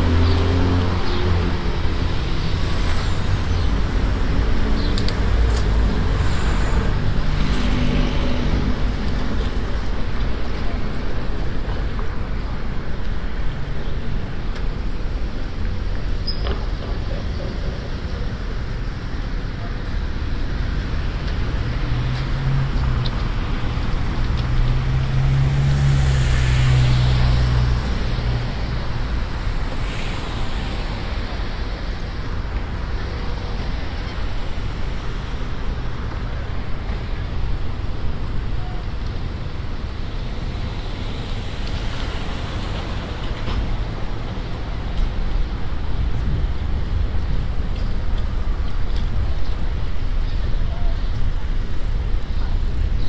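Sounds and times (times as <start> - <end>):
street traffic noise: 0.0 - 53.0.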